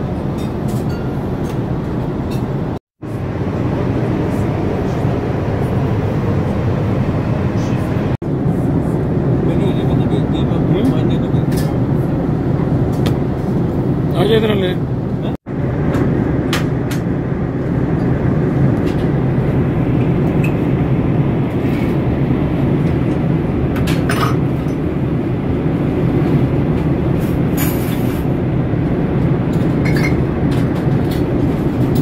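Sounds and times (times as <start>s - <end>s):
airplane cabin engine noise: 0.0s - 32.0s.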